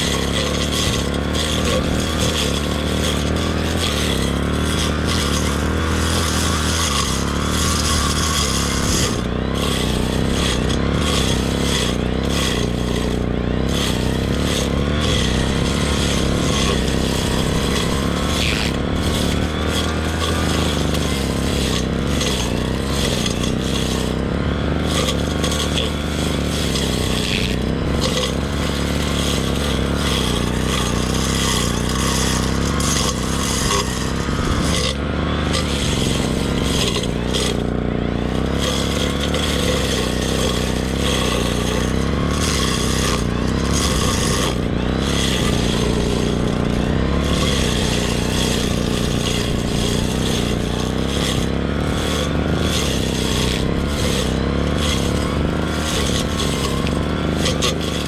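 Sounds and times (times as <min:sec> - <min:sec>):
brush cutter engine running: 0:00.0 - 0:58.0.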